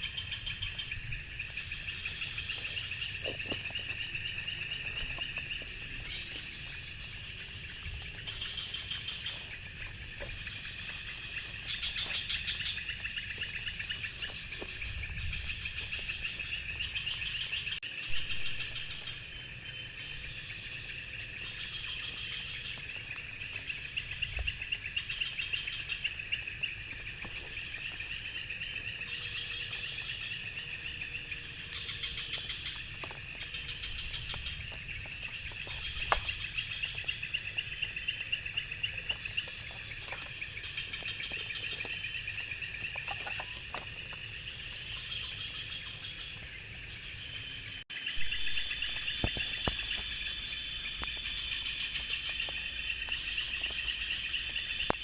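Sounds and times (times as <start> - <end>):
high-pitched insect buzz: 0.0 - 55.0
insects chirring: 0.0 - 55.0.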